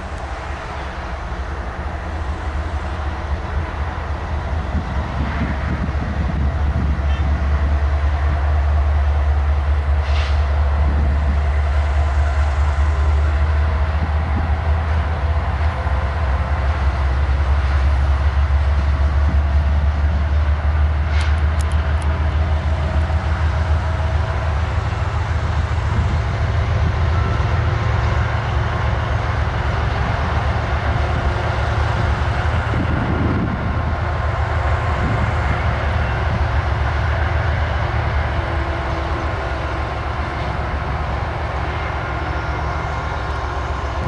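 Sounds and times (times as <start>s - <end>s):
diesel locomotive engine rumble: 0.0s - 44.0s.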